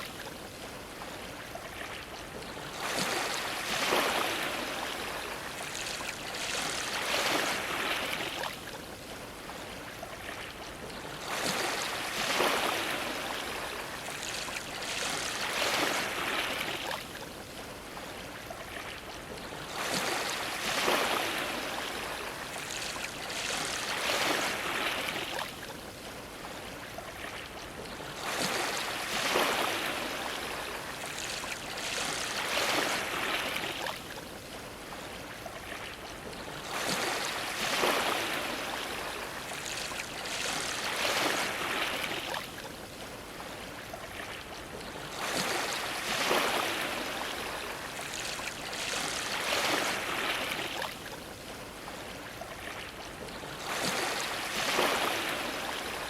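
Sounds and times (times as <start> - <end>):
ocean waves splashing against dock: 0.0 - 56.0.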